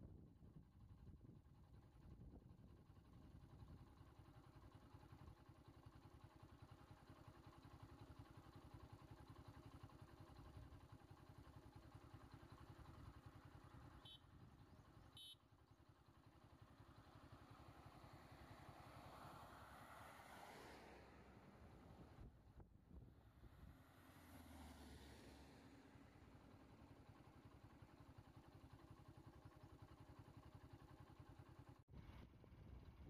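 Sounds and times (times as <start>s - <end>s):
faint vehicle engine idling: 0.1s - 33.0s.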